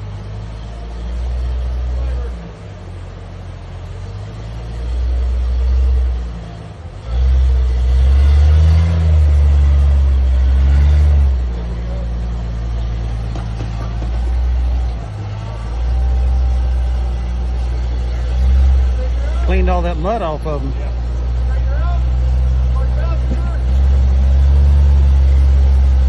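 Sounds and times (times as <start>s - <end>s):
off-road engine revving under load: 0.0s - 26.0s.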